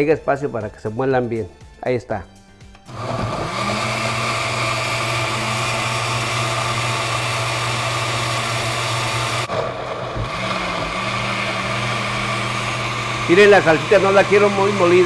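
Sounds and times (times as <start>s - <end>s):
blender motor running: 2.9s - 15.0s.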